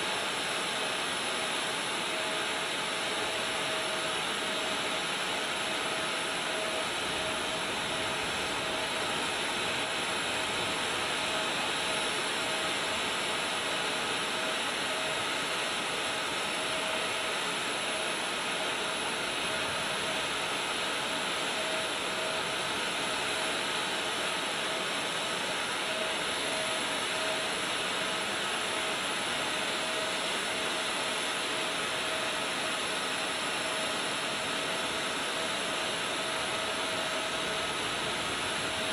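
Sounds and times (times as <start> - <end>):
jet turbine engine running: 0.0 - 38.9.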